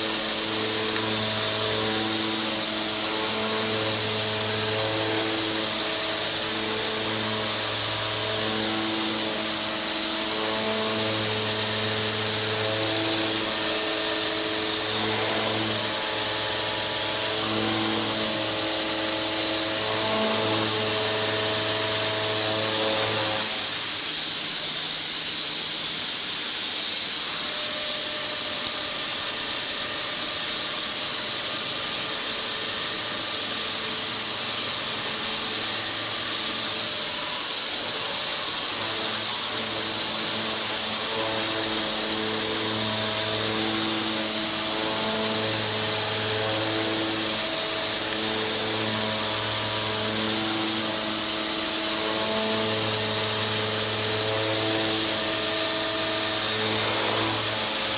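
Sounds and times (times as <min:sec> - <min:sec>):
milling cutter humming: 0:00.0 - 0:23.8, 0:31.4 - 0:57.9
loud steady hiss: 0:00.0 - 0:57.9.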